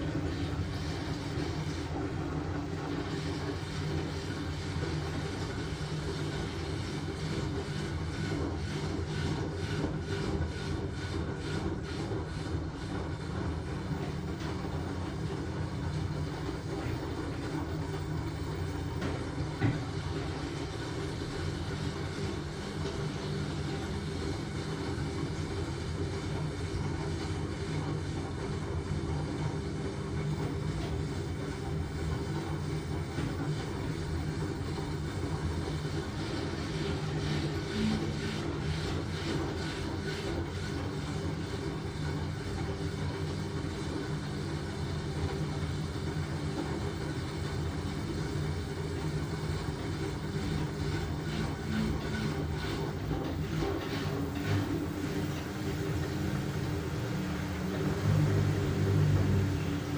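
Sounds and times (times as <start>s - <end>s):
washing machine running: 0.0s - 59.9s.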